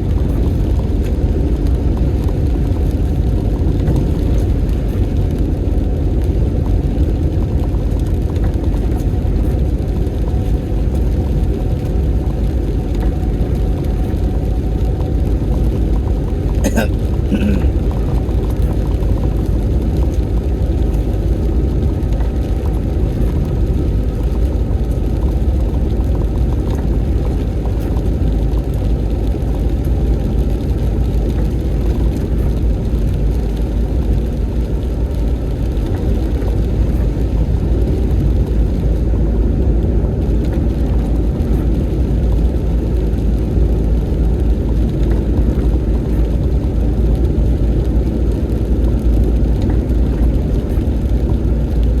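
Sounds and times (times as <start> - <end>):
car road rumble: 0.0 - 52.0.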